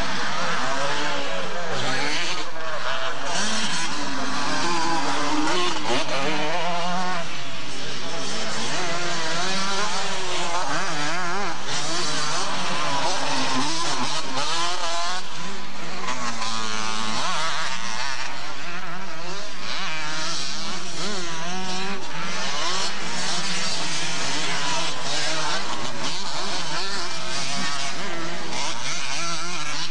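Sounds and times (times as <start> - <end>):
motocross bikes revving: 0.0 - 29.9.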